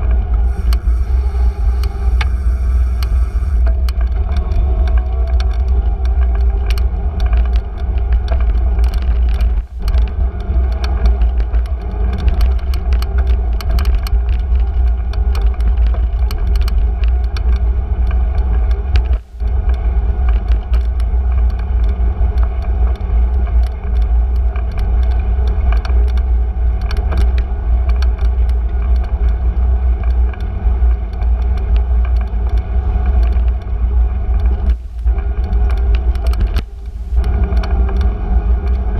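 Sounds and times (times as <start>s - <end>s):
bicycle road noise: 0.0s - 38.9s
small clicks and rattles: 0.0s - 38.9s
wind rumble on microphone: 0.0s - 38.9s.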